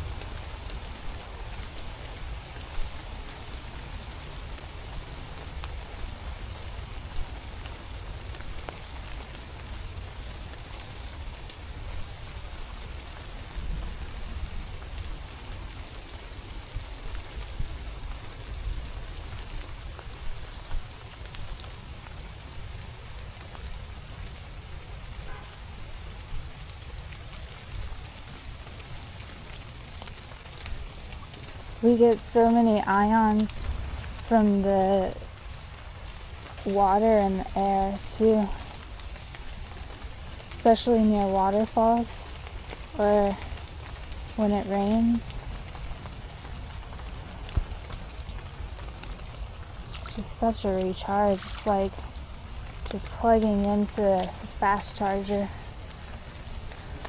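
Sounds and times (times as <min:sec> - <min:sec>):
rain falling on forest: 0:00.0 - 0:57.0.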